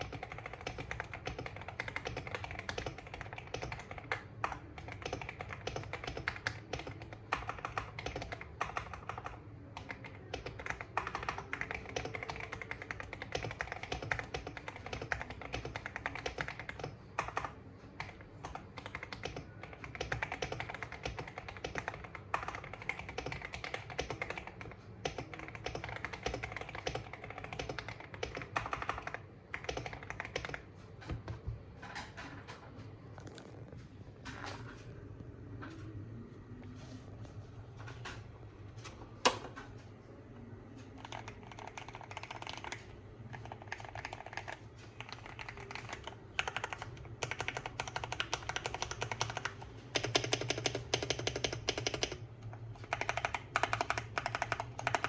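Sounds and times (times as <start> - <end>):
typing on mechanical keyboard: 0.0 - 32.6, 40.9 - 55.0.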